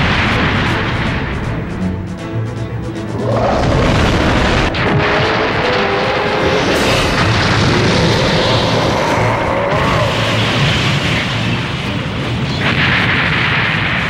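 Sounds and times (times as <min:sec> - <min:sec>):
rushing blast of noise: 0:00.0 - 0:14.0.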